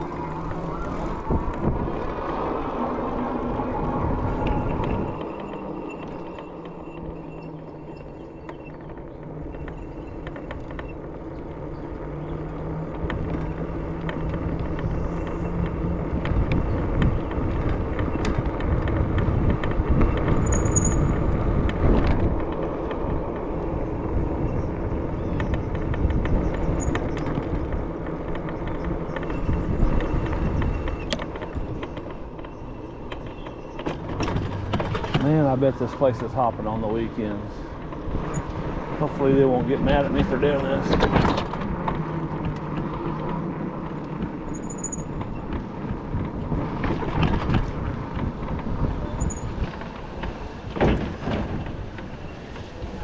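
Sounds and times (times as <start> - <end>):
truck engine and tyre rumble: 0.0 - 53.0.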